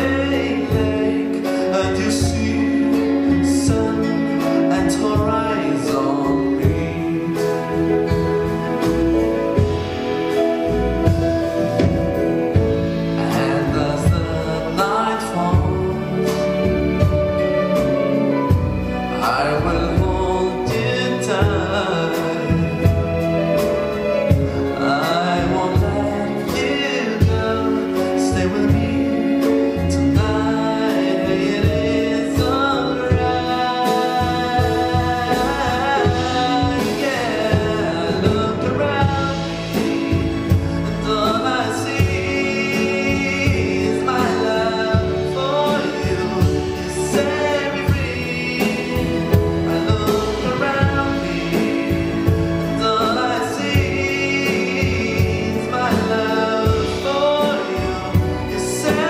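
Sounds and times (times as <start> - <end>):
acoustic guitar: 0.0 - 59.0
person singing: 0.0 - 59.0
piano: 0.0 - 59.0
string orchestra chords: 0.0 - 59.0.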